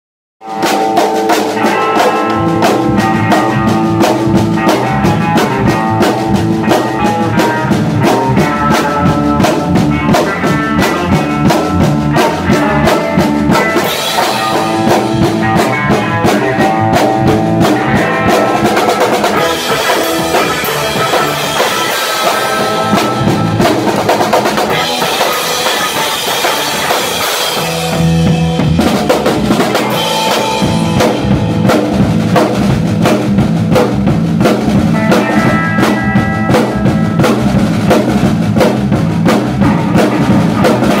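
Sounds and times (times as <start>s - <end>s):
drum kit beat: 0.4s - 41.0s
live band playing loud: 0.4s - 41.0s.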